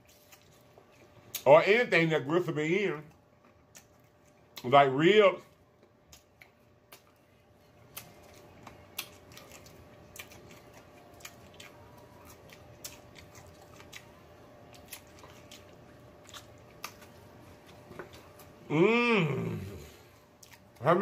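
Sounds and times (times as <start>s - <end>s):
person chewing chicken: 0.0s - 1.5s, 3.1s - 4.6s, 5.5s - 20.8s.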